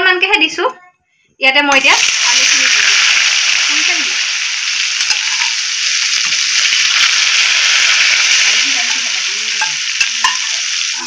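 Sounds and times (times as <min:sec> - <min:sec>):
potatoes sizzling in hot oil: 0:01.8 - 0:11.0.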